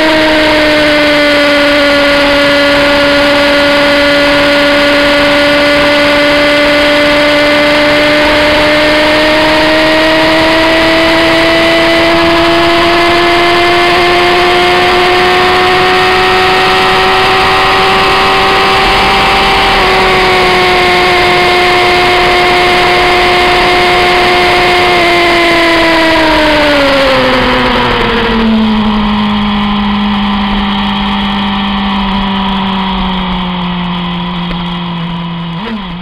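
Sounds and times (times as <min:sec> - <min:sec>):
motorcycle engine at high revs: 0:00.0 - 0:36.0.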